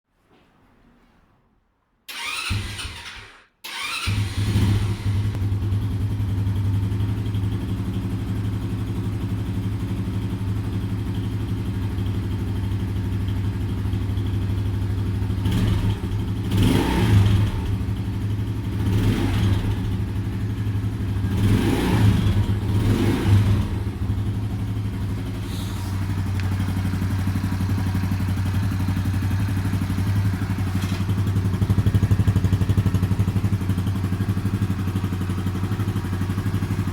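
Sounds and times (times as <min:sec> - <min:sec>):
moped engine running: 0:04.0 - 0:36.9.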